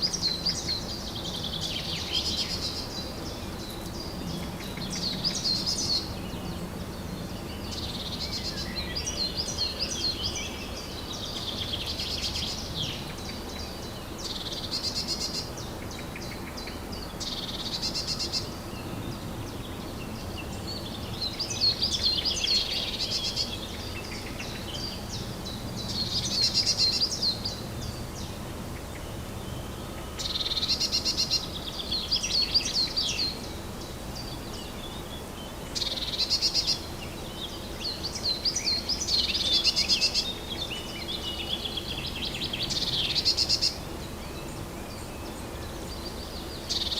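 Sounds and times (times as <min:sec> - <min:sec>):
low background hiss: 0:00.0 - 0:46.9
songbirds singing trilled notes: 0:00.0 - 0:46.9.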